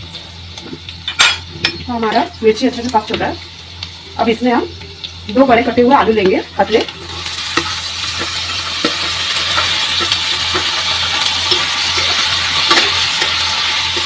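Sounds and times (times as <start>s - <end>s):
potatoes sizzling in hot oil: 0.0s - 14.0s.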